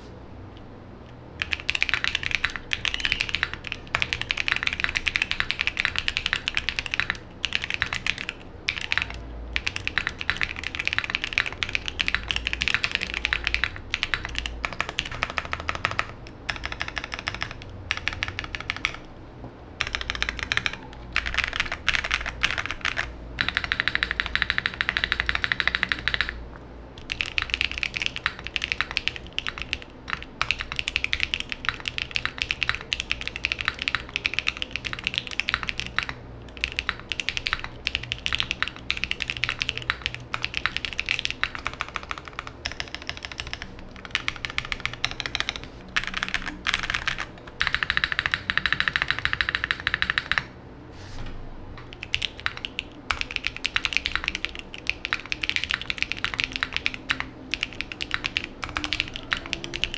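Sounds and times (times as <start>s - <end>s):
mechanical keyboard typing: 1.4s - 19.1s, 19.8s - 26.4s, 27.0s - 50.5s, 51.8s - 59.9s.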